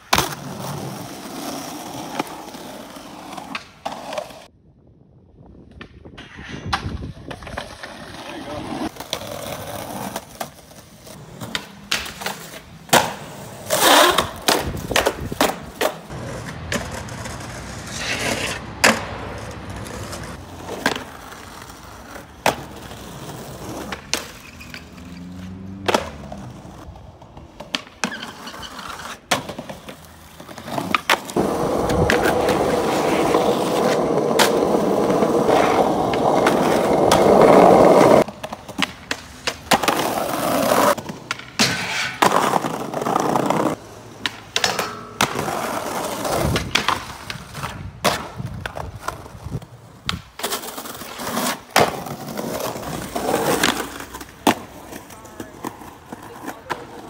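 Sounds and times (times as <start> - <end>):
skateboard wheels rolling on concrete: 0.0 - 57.0
skateboard clacking: 5.8 - 57.0.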